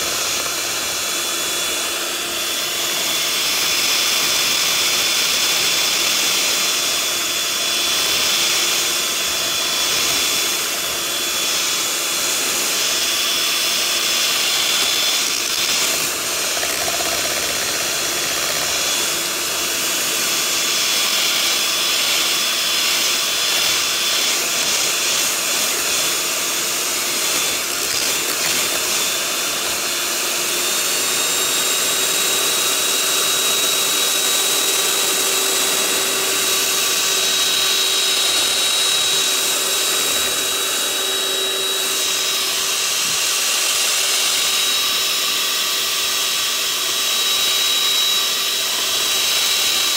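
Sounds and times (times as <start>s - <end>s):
electric hand mixer whirring: 0.0s - 49.9s.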